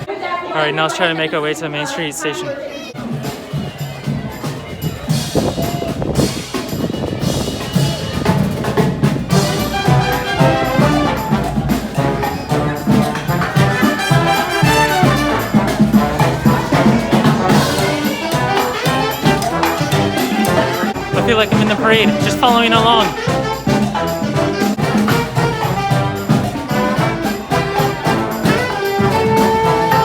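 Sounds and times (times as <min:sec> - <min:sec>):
drum beat: 0:03.0 - 0:30.0
marching band playing: 0:03.0 - 0:30.0.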